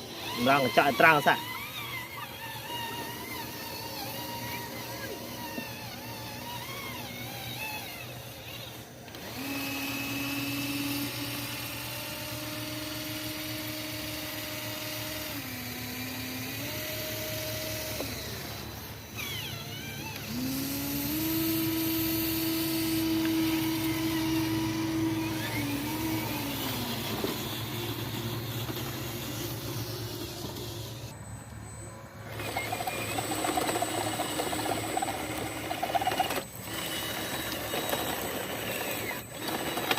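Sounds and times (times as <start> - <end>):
small electric motors whining: 0.0 - 39.9.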